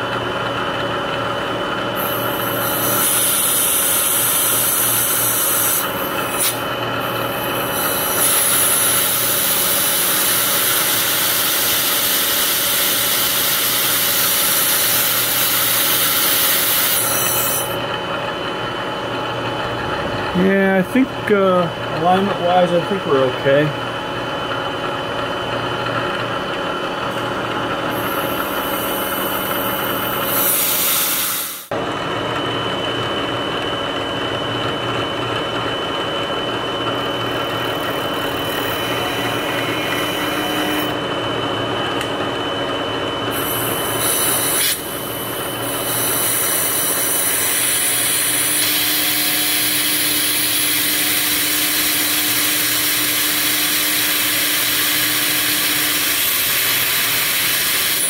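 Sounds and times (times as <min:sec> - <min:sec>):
milling machine cutting metal: 0:00.6 - 0:58.0.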